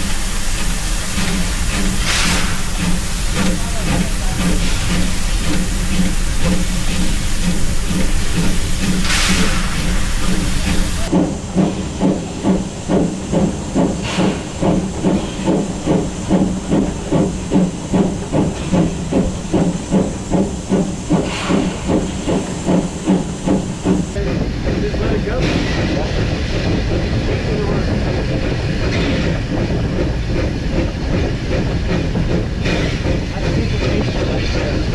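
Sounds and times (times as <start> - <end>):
steam hissing: 0.0 - 34.9
steam locomotive chuffing: 0.0 - 34.9.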